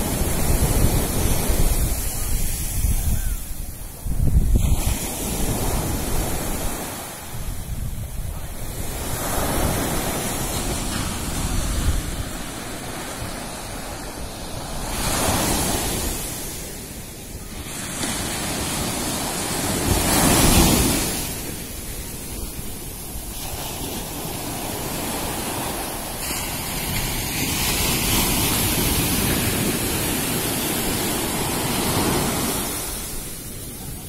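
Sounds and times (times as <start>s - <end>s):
small waves breaking on sand: 0.0s - 34.0s
wind rumbling on microphone: 0.0s - 34.0s.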